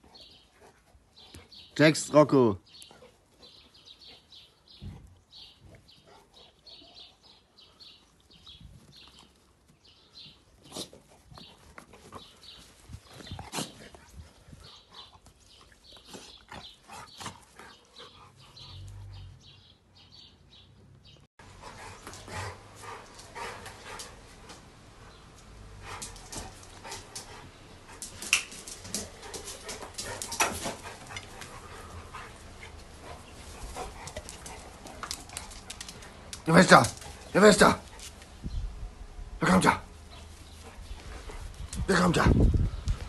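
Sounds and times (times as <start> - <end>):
dogs playing: 0.0 - 1.8, 2.6 - 39.0, 39.8 - 42.1.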